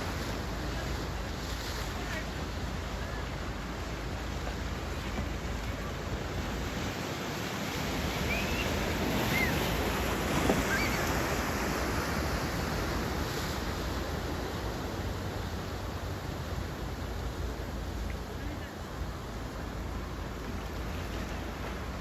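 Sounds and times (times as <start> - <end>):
surf breaking and washing in: 0.0 - 22.0.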